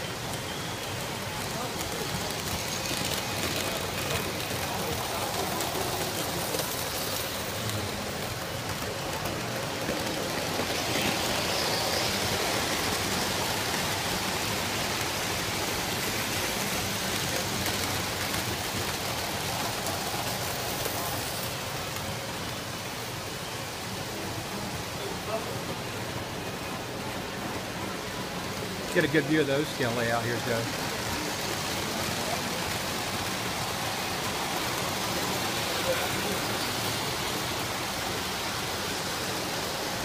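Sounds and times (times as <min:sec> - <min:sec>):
model trains rumbling on track: 0:00.0 - 0:40.0.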